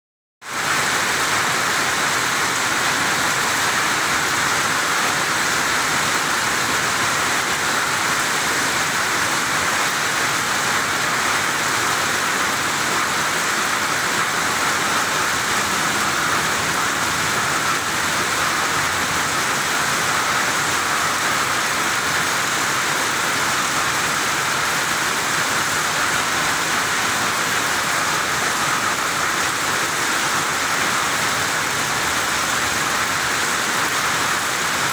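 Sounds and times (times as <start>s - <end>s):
heavy rain hissing: 0.5s - 34.9s.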